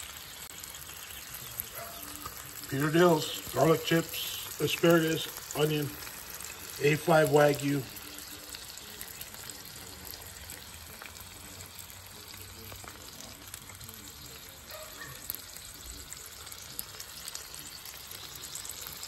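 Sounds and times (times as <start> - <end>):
steak sizzling on a griddle: 0.0 - 19.0.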